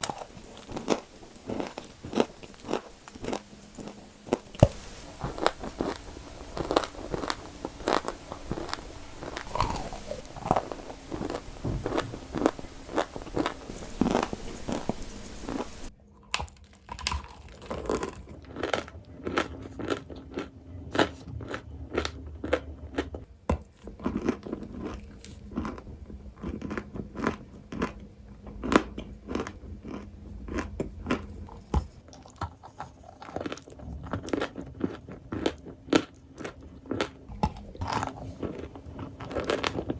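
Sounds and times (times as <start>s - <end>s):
crunchy balls crunching: 0.0s - 39.9s.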